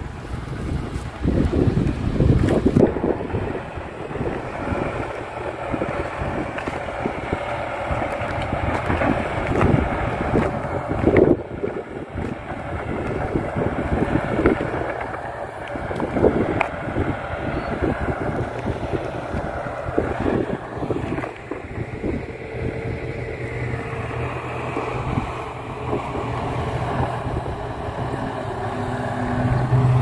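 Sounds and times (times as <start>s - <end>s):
distant excavator engine running: 0.0s - 30.0s
wind on microphone: 0.0s - 30.0s.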